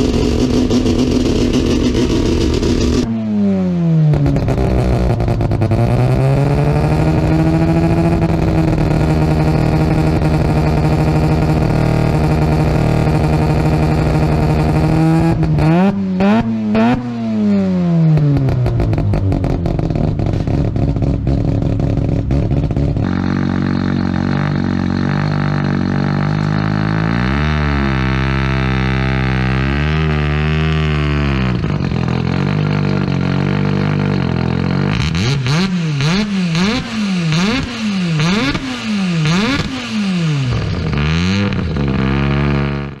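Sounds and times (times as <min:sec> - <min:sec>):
car engine blipped: 0:00.0 - 0:43.0
rotary engine idling and revving: 0:00.0 - 0:43.0.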